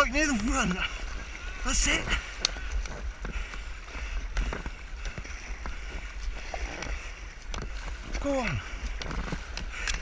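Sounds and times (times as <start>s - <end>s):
kayak paddles splashing: 0.0s - 10.0s
wind rumbling on microphone: 0.0s - 10.0s.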